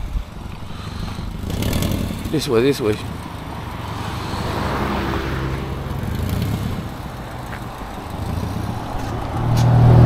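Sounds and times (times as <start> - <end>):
car engine humming: 0.0 - 10.0
rushing noise: 0.0 - 10.0.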